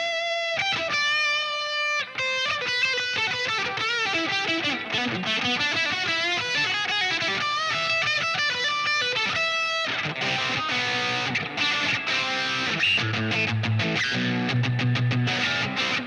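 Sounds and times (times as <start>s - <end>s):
electric guitar lead: 0.0s - 16.0s.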